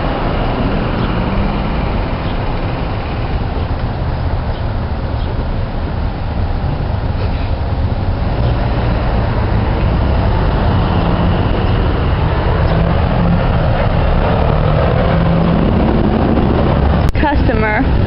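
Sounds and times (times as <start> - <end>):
van engine idling: 0.0 - 18.0.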